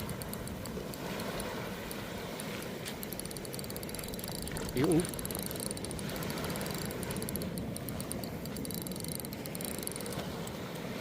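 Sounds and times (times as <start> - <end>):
insects chirring: 0.0 - 10.9.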